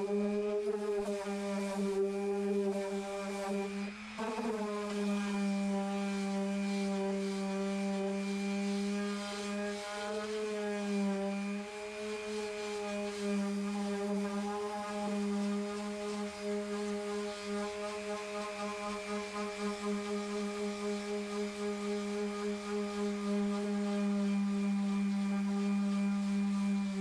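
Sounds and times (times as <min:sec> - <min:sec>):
electric sander buzzing: 0:00.0 - 0:27.0.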